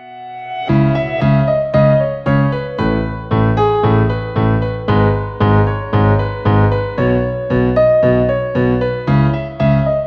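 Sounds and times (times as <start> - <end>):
keyboard chords: 0.0 - 10.0
deep bass: 0.7 - 10.0.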